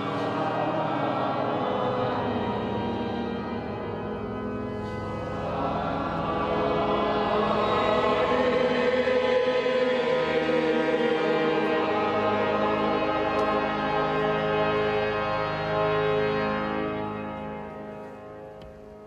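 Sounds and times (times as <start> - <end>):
sacred music sustained chords: 0.0 - 19.0.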